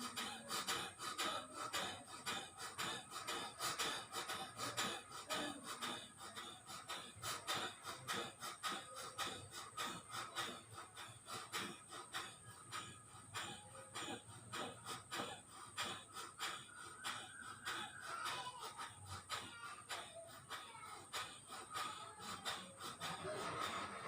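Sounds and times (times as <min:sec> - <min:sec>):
forceful nasal exhalations: 0:00.0 - 0:24.0.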